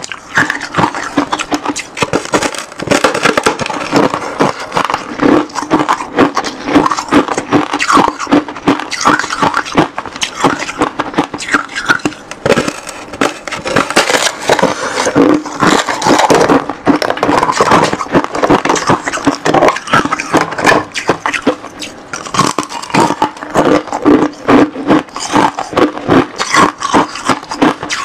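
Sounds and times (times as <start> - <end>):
ice crunching while chewed: 0.0 - 28.0.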